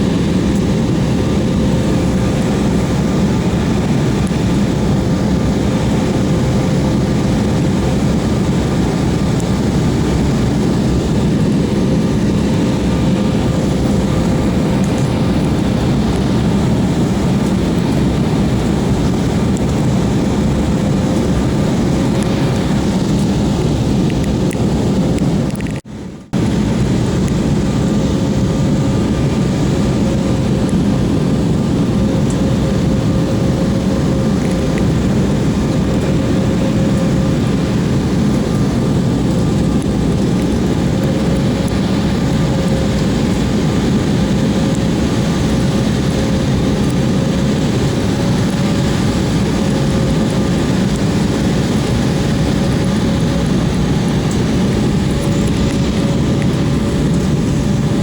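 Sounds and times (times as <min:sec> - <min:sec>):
airliner cabin rumble: 0:00.0 - 0:58.0
thin steady whine: 0:00.0 - 0:58.0.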